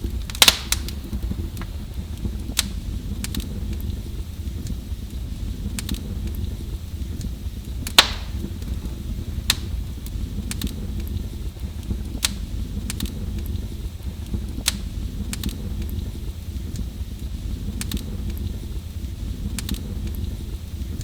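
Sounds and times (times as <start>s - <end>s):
fire crackles and pops: 0.0s - 21.0s
wood fire rumbling: 0.0s - 21.0s.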